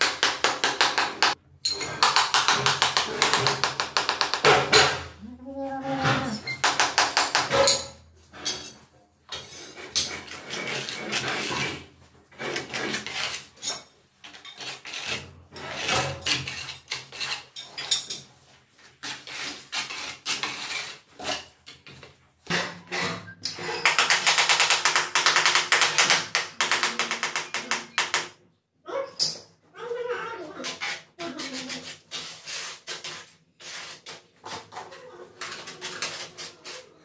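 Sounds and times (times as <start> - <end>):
trowel scraping tile adhesive: 0.0 - 4.8, 6.0 - 28.2, 30.5 - 37.0.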